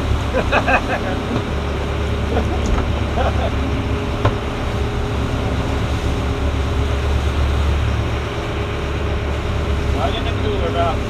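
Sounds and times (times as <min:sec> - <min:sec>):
boat engine drone: 0:00.0 - 0:11.0
churning wake: 0:00.0 - 0:11.0.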